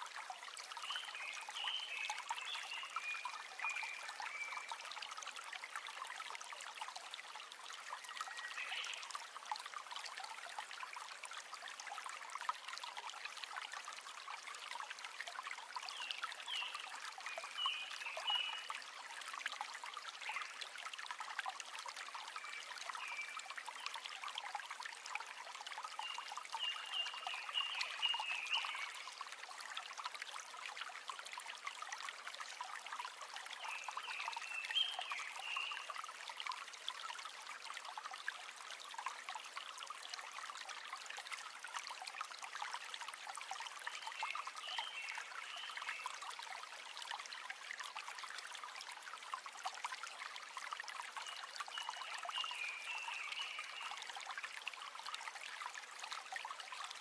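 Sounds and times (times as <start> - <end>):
river water trickling over stones: 0.0 - 57.0.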